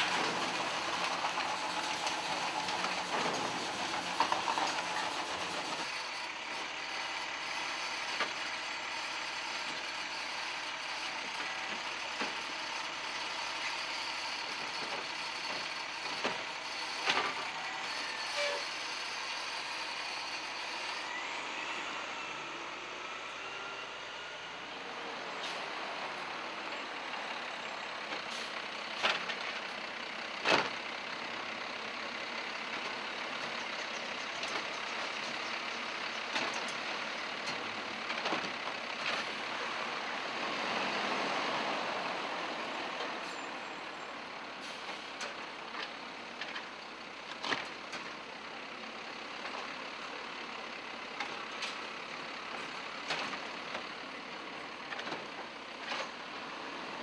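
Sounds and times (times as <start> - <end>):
garbage truck running: 0.0 - 57.0.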